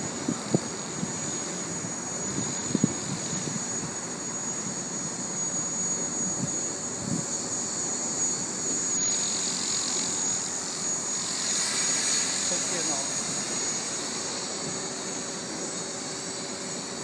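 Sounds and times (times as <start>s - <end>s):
model helicopter whine: 0.0s - 17.0s
rushing rotor noise: 0.0s - 17.0s.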